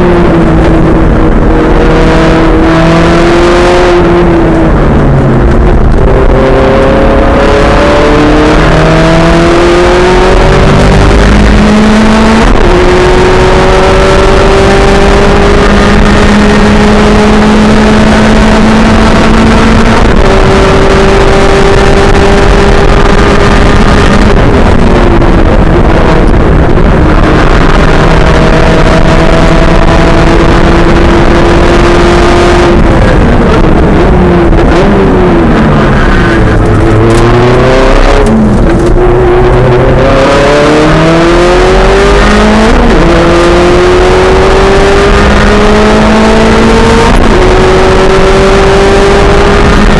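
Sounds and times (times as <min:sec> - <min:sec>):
race car engine: 0:00.0 - 0:49.9.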